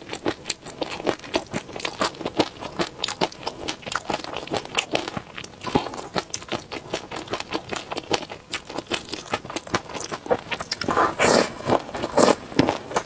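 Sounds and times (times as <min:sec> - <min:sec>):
close chewing of food: 0:00.0 - 0:13.0.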